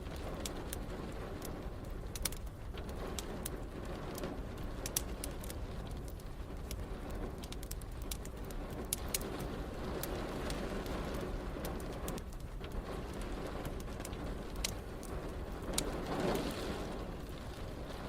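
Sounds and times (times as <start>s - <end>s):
rain: 0.0s - 18.0s
wood fire crackling: 0.0s - 18.0s.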